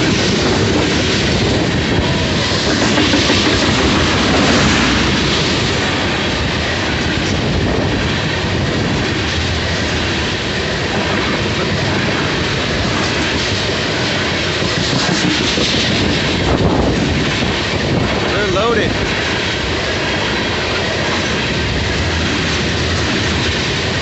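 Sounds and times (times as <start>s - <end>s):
clickety-clack over rail joints: 0.0s - 24.0s
train wheels rolling on rails: 0.0s - 24.0s.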